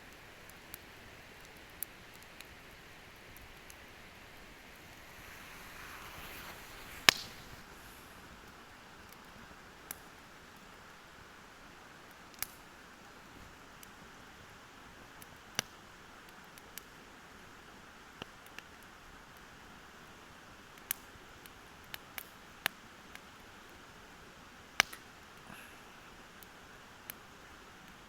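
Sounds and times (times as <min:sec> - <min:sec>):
campfire hissing: 0:00.0 - 0:28.0
fire crackling and popping: 0:00.0 - 0:28.0.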